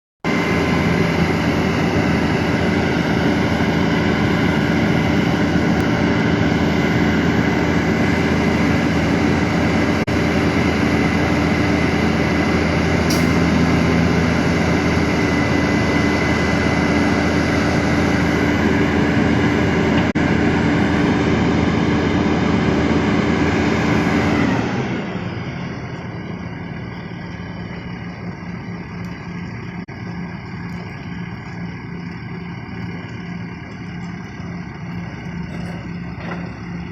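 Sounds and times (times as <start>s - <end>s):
woodworking machine running: 0.5s - 36.9s.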